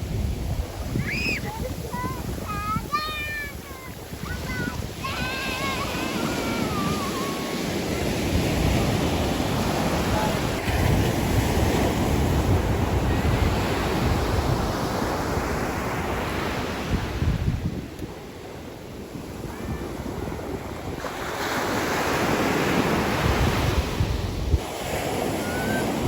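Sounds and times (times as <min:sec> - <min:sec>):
ocean waves breaking on shore: 0:00.0 - 0:26.0
wind buffeting microphone: 0:00.0 - 0:26.0.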